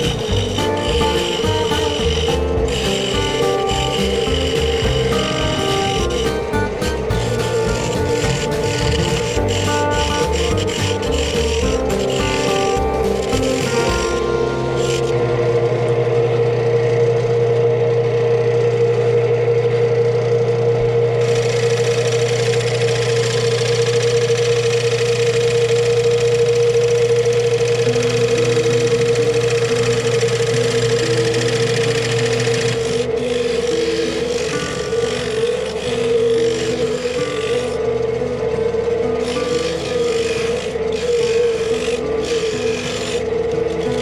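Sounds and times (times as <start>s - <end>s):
lathe motor humming: 0.0s - 44.0s
turning tool cutting wood: 0.0s - 44.0s.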